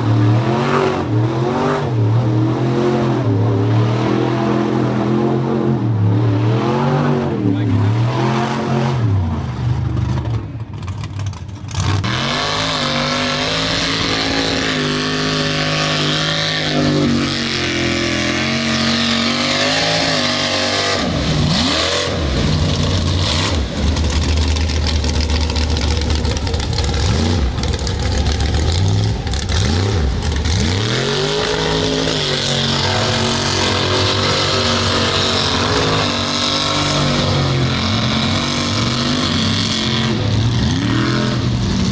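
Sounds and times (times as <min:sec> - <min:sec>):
truck engine revving hard: 0:00.0 - 0:10.4, 0:11.7 - 0:41.9.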